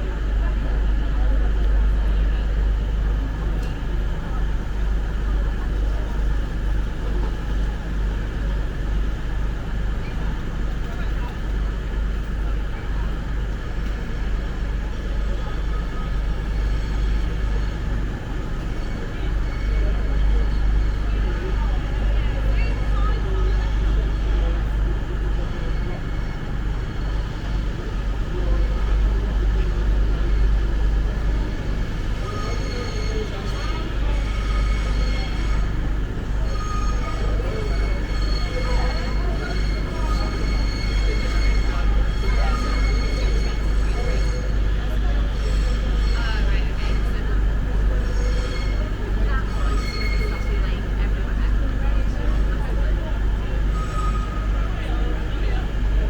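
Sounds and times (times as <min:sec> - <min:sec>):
faint background hubbub: 0:00.0 - 0:56.0
railway station rumble: 0:00.0 - 0:56.0.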